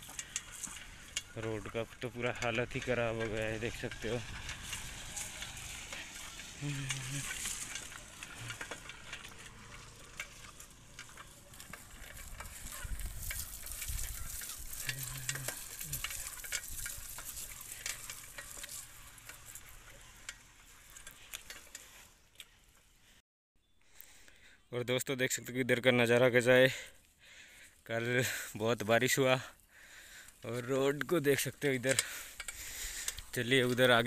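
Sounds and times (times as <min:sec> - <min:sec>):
bicycle tyres on gravel: 0:00.0 - 0:23.2, 0:25.8 - 0:34.0.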